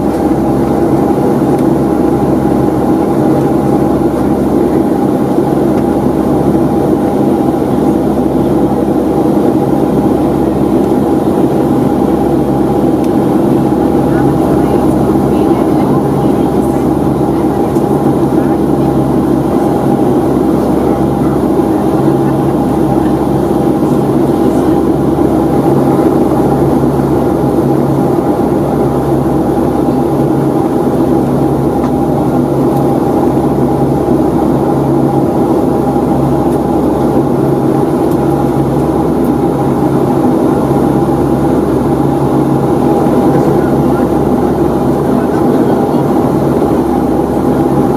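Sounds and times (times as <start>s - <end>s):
airplane cabin drone: 0.0s - 47.9s
constant hums: 0.0s - 47.9s.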